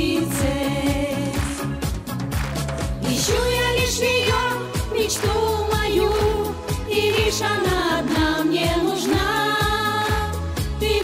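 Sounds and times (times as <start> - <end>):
women singing pop song: 0.0 - 1.9, 3.0 - 11.0
music with steady beat: 0.0 - 11.0.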